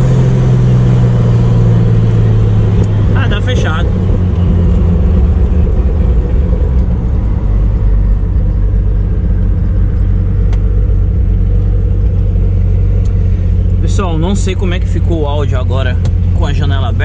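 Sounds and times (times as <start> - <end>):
car engine running: 0.0 - 17.0
road and wind noise: 0.0 - 17.0.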